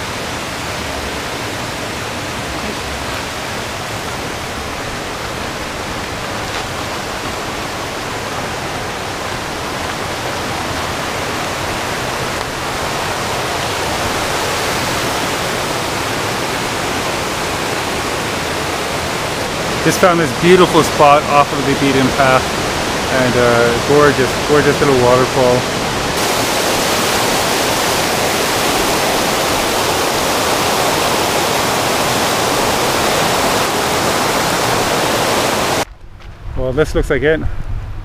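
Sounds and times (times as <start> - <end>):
water rushing over rocks: 0.0 - 35.9.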